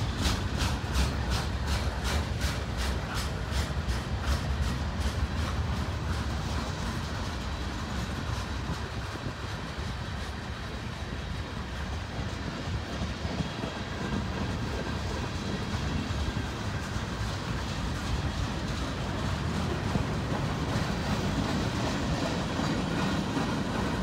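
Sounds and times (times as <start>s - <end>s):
train wheels rumbling on rails: 0.0s - 24.0s
wheels clicking over rail joints: 0.0s - 24.0s.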